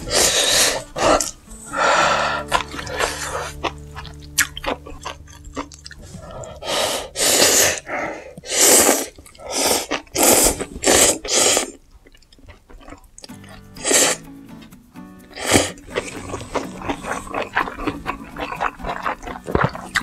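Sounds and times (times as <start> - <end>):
noodles being slurped: 2.1 - 14.3, 15.4 - 20.0
soft chewing: 2.4 - 13.8, 15.3 - 20.0.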